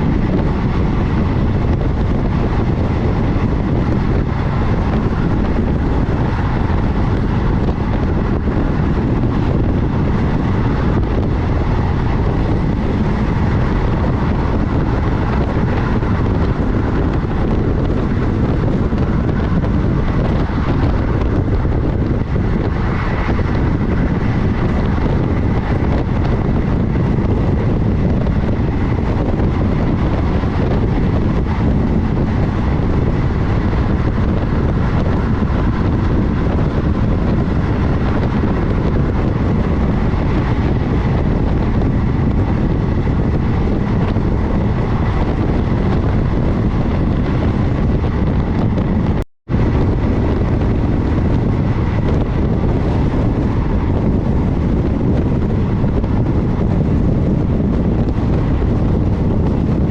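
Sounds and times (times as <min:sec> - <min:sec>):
train rumbling at speed: 0:00.0 - 0:59.9
wind buffeting microphone: 0:00.0 - 0:59.9.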